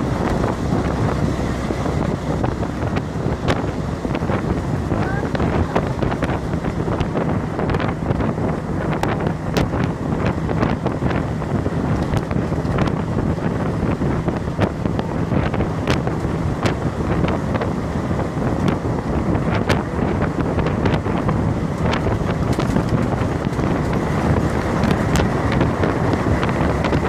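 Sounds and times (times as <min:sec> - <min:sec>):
bus engine and road rumble: 0:00.0 - 0:27.0
wind buffeting microphone: 0:00.0 - 0:27.0.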